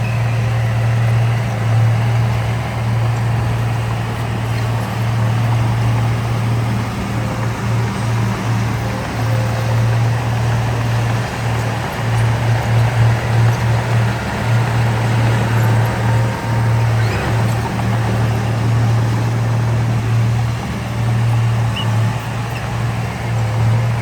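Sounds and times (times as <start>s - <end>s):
heavy diesel engine droning: 0.0s - 24.0s.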